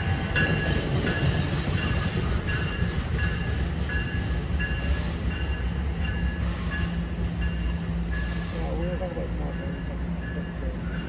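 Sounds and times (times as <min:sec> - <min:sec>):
train wheel rumble: 0:00.0 - 0:11.0.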